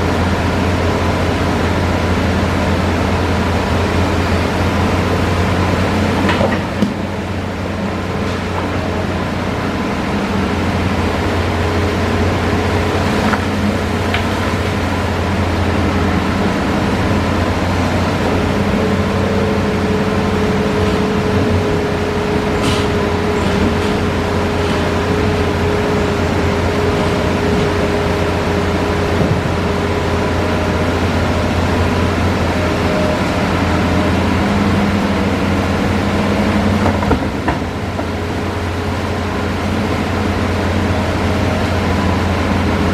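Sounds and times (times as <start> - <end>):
excavator engine and hydraulics: 0.0 - 42.9.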